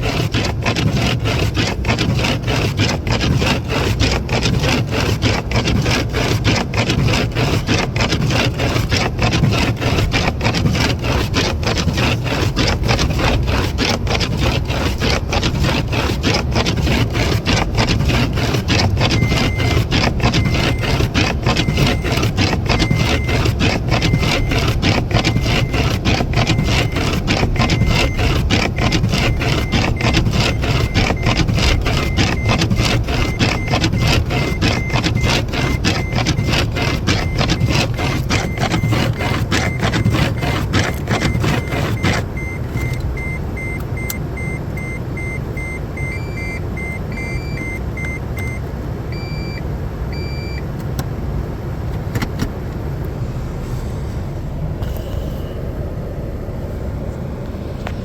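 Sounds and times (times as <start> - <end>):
engine running with pulsing noise: 0.0 - 50.5, 52.4 - 58.0.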